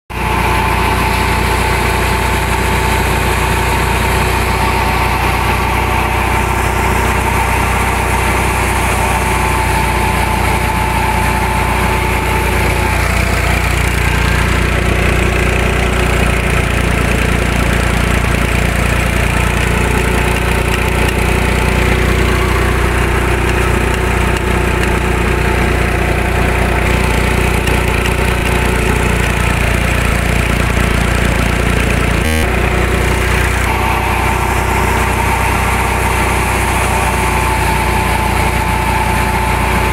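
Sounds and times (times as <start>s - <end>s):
tractor diesel engine running: 0.1s - 39.9s.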